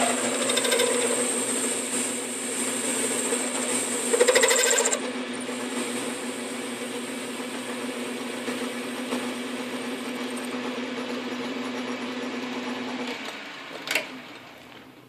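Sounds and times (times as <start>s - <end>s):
metal lathe humming and whining: 0.0s - 13.6s.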